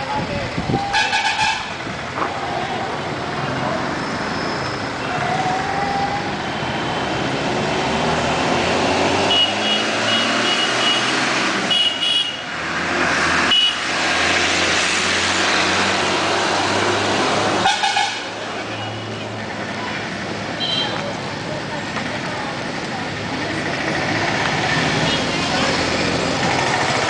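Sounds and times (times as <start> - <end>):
road traffic: 0.0 - 27.0.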